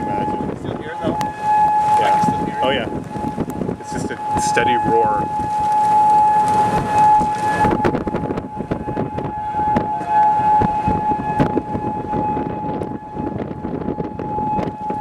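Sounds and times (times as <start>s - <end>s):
siren tone: 0.0s - 15.0s
tornado roaring: 0.0s - 15.0s
wind buffeting microphone: 0.0s - 15.0s.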